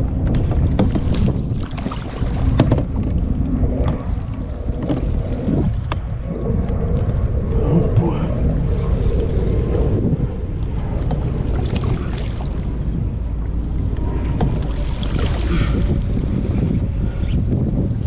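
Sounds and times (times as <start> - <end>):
water lapping against kayak hull: 0.0 - 18.0
wind buffeting microphone: 0.0 - 18.0.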